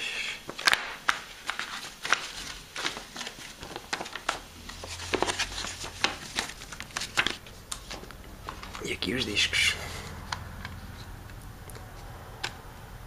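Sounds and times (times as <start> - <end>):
paper pages rustling: 0.5 - 11.2.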